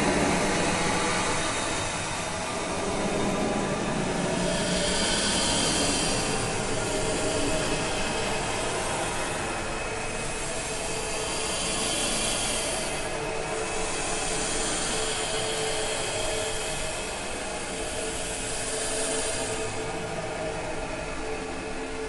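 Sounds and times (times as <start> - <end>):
dense noise drone with low tones: 0.0 - 22.0.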